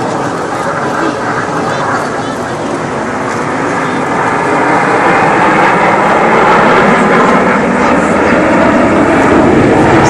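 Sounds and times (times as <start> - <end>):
jet engines flying over: 0.0 - 10.0.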